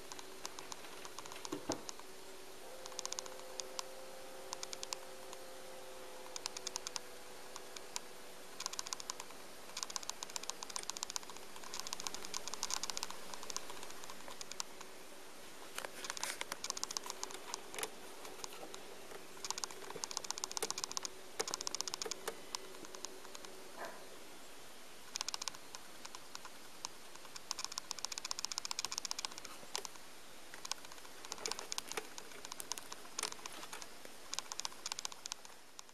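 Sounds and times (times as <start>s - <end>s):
rapid fine clicking: 0.0s - 2.1s, 2.8s - 3.9s, 4.5s - 5.4s, 6.2s - 14.9s, 15.7s - 23.6s, 25.1s - 35.9s
faint steady hum: 0.0s - 35.9s.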